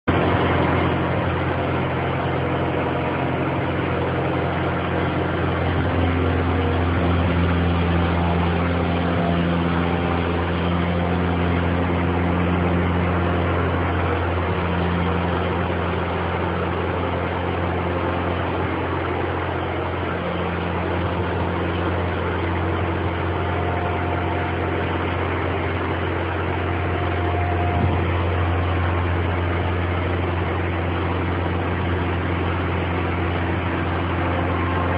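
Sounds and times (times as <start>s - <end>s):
sawmill engine humming: 0.0s - 34.9s.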